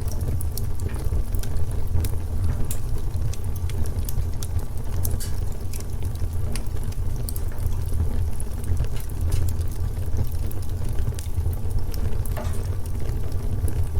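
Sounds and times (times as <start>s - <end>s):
low rumble of burning fire: 0.0s - 13.9s
wood fire crackling: 0.0s - 13.9s.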